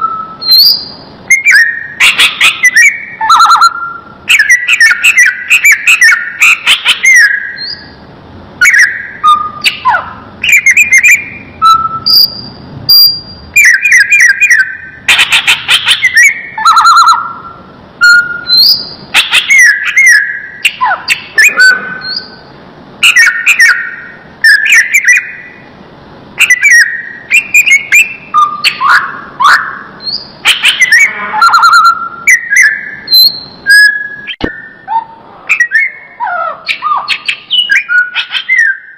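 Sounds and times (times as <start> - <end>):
bird singing whistled phrases: 0.0 - 8.0, 8.6 - 22.4, 23.0 - 25.6, 26.4 - 38.9.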